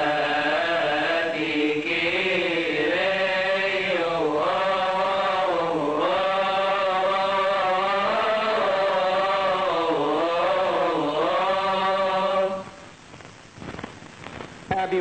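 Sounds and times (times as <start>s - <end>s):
voices chanting: 0.0s - 12.8s.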